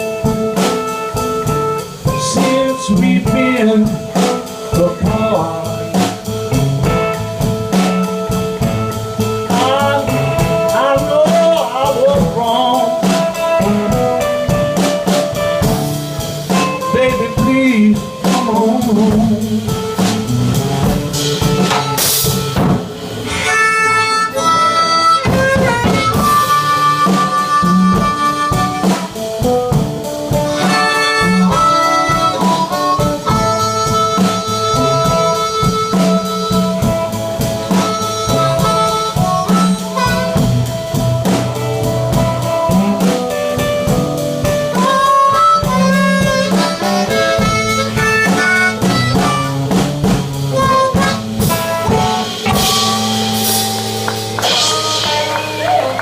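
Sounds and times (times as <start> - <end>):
blues band playing: 0.0 - 56.0
harmonica bent notes: 0.0 - 56.0.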